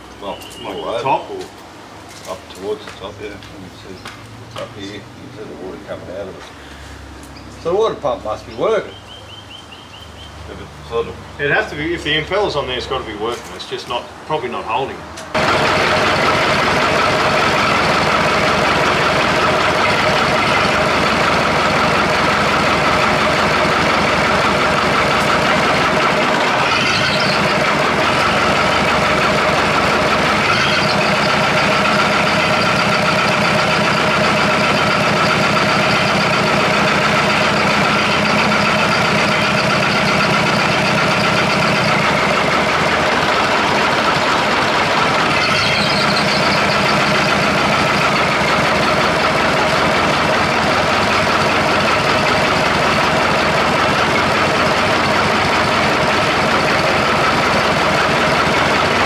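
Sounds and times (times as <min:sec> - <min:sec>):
diesel engine idling: 0:02.6 - 0:59.0.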